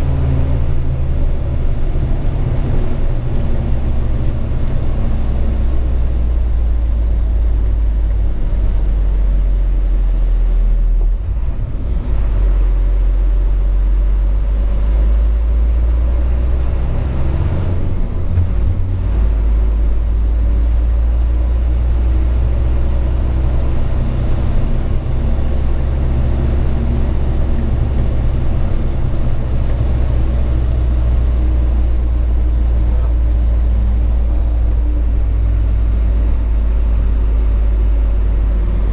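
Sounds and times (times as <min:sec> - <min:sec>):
truck diesel engine rumble: 0:00.0 - 0:38.9.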